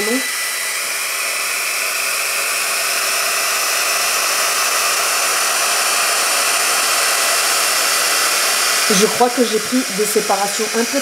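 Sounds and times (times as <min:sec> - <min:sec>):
hot-air fan blowing: 0:00.0 - 0:11.0.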